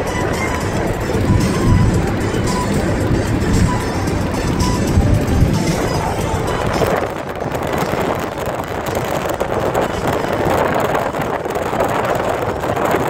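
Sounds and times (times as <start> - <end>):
car wind and road noise: 0.0 - 13.0
wind on microphone: 0.0 - 13.0.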